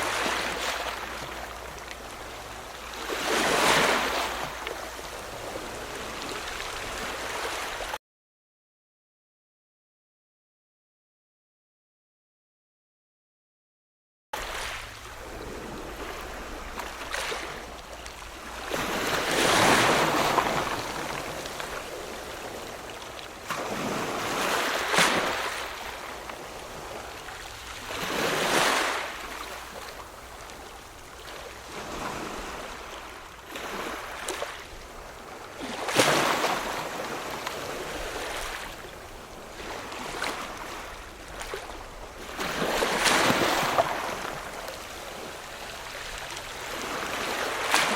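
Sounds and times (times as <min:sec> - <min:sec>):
ocean waves breaking: 0:00.0 - 0:08.0, 0:14.4 - 0:47.9.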